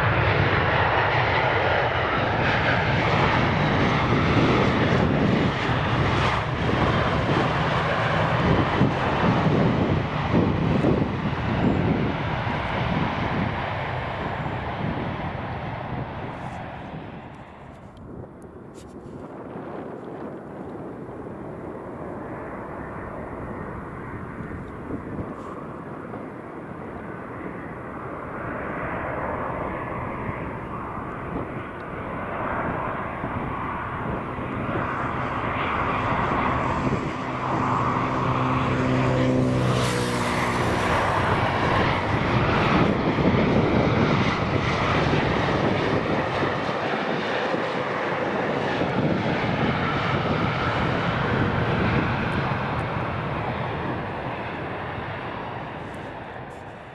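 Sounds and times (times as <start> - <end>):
jet airliner passing by: 0.0 - 56.9.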